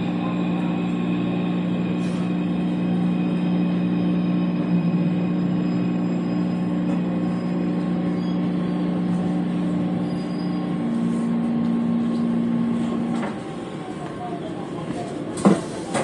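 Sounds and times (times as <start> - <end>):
metro train rumble: 0.0 - 16.0.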